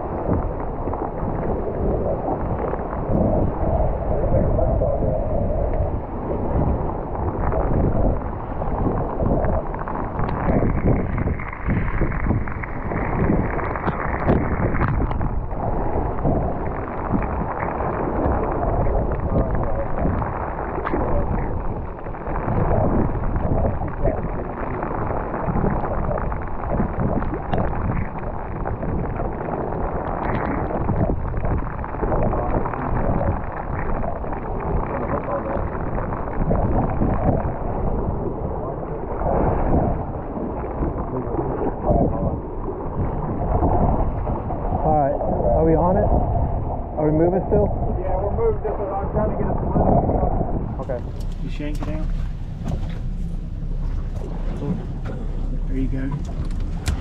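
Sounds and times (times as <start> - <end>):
choppy sea water: 0.0 - 57.0
wind buffeting microphone: 0.0 - 57.0.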